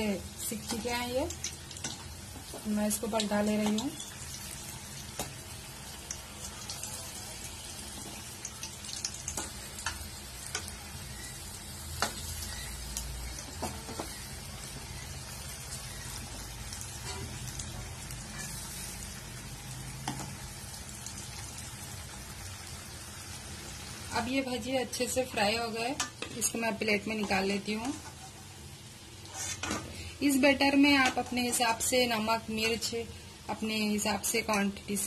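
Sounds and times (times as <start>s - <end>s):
deep-frying sizzle in oil: 0.0s - 35.0s.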